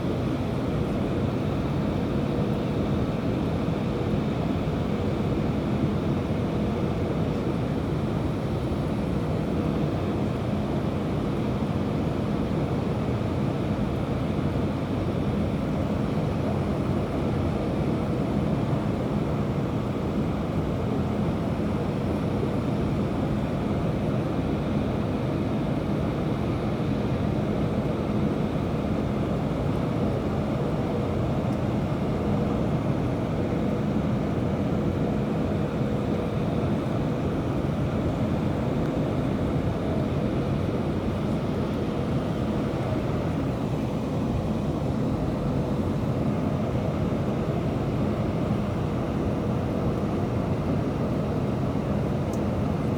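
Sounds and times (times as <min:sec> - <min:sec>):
airliner engines and airflow roar: 0:00.0 - 0:52.9.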